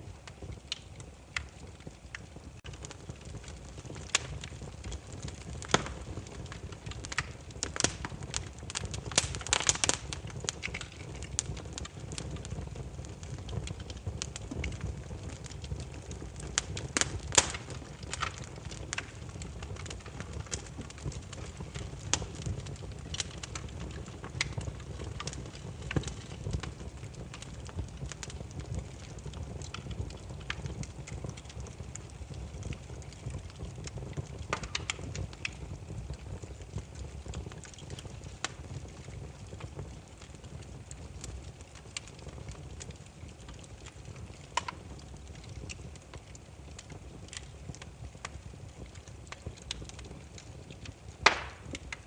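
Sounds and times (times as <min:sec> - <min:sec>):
firewood crackling and popping: 0:00.0 - 0:52.0
low rumble of flames: 0:00.0 - 0:52.0.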